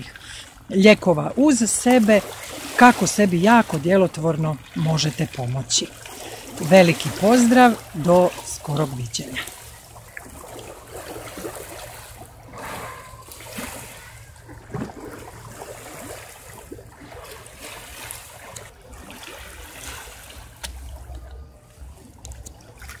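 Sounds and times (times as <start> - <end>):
waves lapping against rocks: 0.0 - 23.0.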